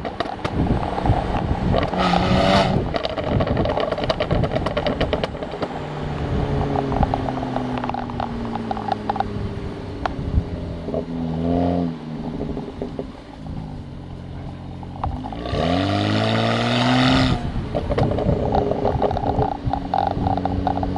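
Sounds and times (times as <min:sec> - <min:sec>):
car engine revving: 0:00.0 - 0:20.9
exhaust crackles and pops: 0:00.0 - 0:20.9.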